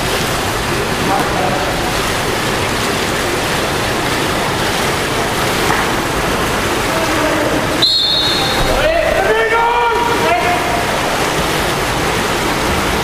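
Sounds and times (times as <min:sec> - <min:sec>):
water splashing from swimmers: 0:00.0 - 0:13.0.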